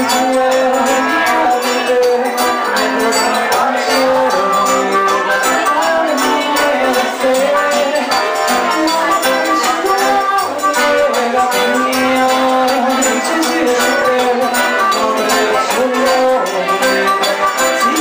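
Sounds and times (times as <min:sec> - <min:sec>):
accordion: 0:00.0 - 0:18.0
guitar: 0:00.0 - 0:18.0
hand percussion: 0:00.0 - 0:18.0.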